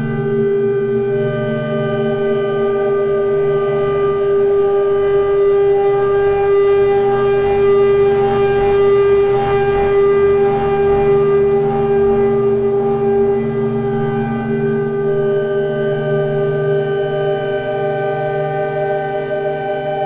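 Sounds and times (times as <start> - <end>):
electronic synth drone: 0.0 - 20.0.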